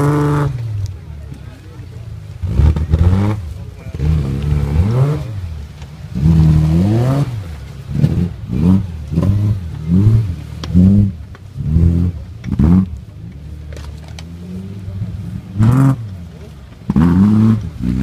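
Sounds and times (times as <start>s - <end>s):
engine revving hard: 0.0s - 0.9s, 2.4s - 13.0s, 14.3s - 18.0s.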